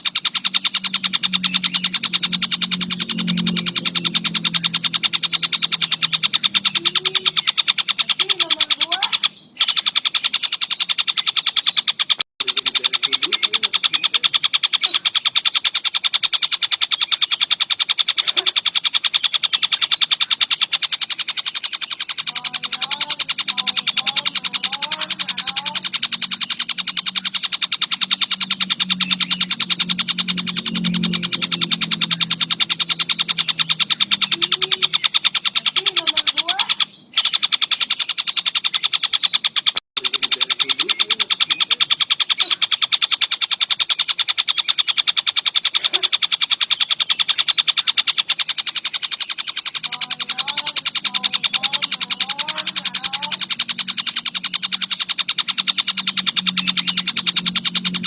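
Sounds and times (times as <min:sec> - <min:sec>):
low hum: 0:00.0 - 0:11.5, 0:12.1 - 0:58.0
kingfisher chattering call: 0:00.0 - 0:58.0.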